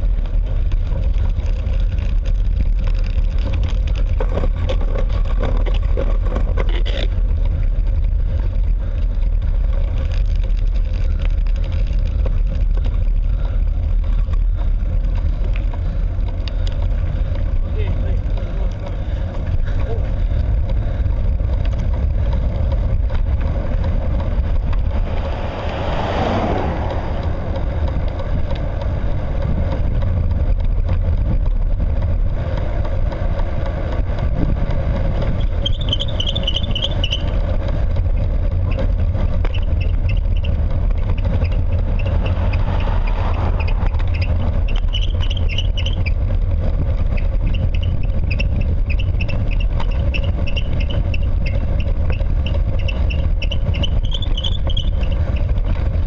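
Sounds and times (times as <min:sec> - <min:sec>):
road and wind rumble: 0:00.0 - 0:56.0.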